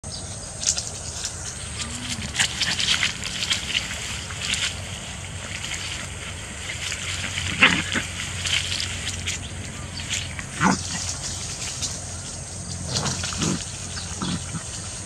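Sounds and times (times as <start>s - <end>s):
steady insect hiss: 0.1s - 15.0s.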